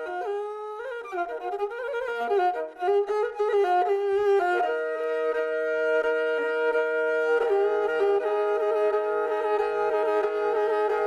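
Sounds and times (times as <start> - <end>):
bowed string instrument melody: 0.0 - 11.0.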